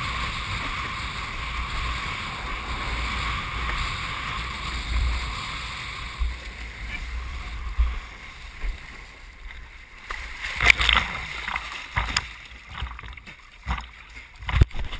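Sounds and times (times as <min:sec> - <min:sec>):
wind rumbling on microphone: 0:00.0 - 0:14.9
water splashing and sloshing: 0:00.2 - 0:14.9.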